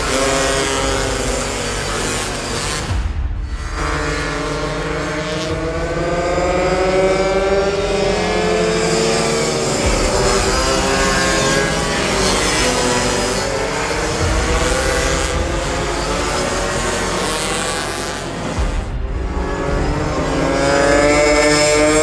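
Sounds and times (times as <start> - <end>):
small two-stroke engines racing: 0.0 - 22.0.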